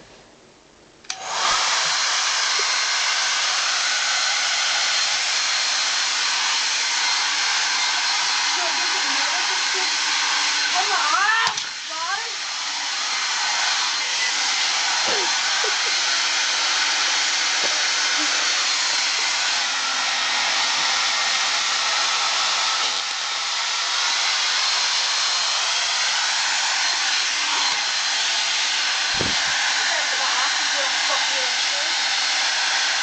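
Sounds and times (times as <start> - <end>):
hair dryer blowing: 1.1 - 33.0.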